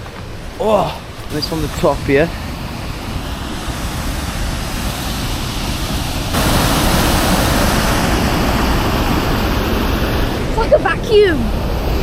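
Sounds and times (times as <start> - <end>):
waterfall rushing: 0.5 - 12.0.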